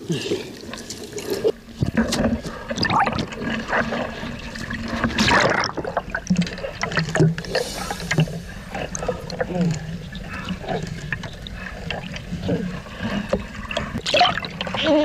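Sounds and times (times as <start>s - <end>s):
waves lapping against floats: 0.0s - 15.0s
seawater splashing and sloshing: 0.4s - 15.0s.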